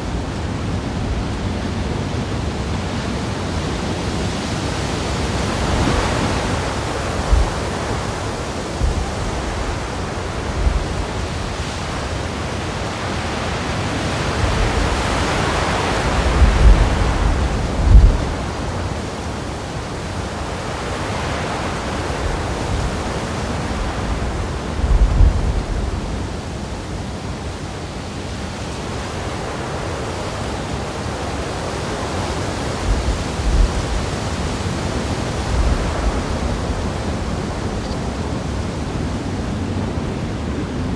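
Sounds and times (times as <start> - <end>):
low wind buffets: 0.0 - 40.9
wind blowing on microphone: 0.0 - 40.9.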